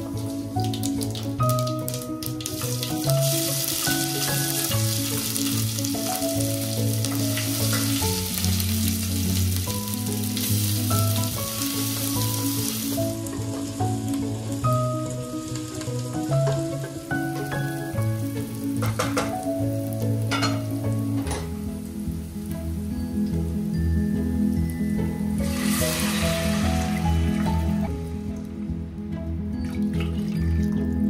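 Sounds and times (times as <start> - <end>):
food sizzling in oil: 0.0 - 28.4
background music: 0.0 - 31.0.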